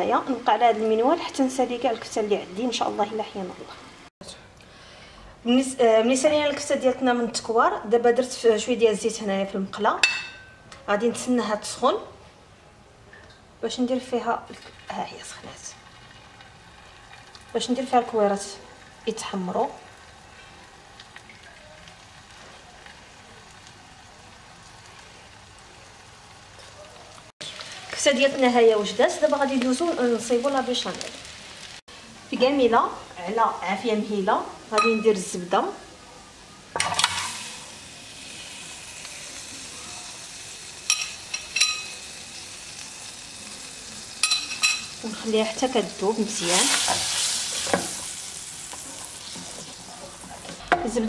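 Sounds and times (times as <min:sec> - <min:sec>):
meatballs sizzling in oil: 0:00.0 - 0:04.1, 0:13.6 - 0:51.0.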